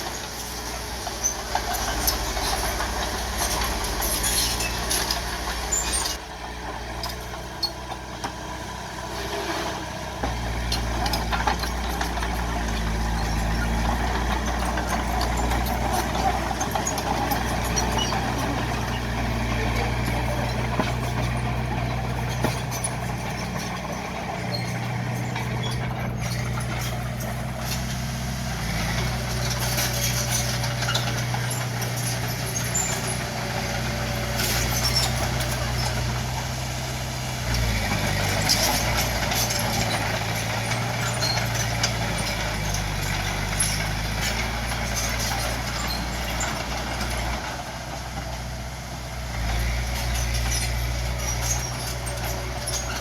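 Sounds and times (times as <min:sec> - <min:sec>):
metallic clanks and squeaks: 0:00.0 - 0:06.2, 0:06.9 - 0:08.5, 0:09.1 - 0:48.4, 0:49.3 - 0:53.0
bulldozer diesel engine running: 0:00.0 - 0:53.0.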